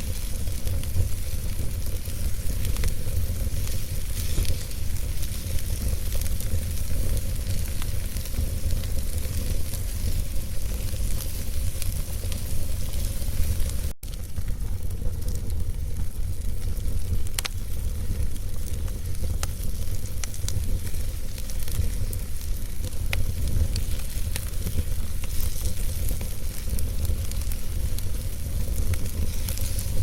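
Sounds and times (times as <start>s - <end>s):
low rumble of flame: 0.0s - 30.0s
wood fire crackling: 0.0s - 30.0s.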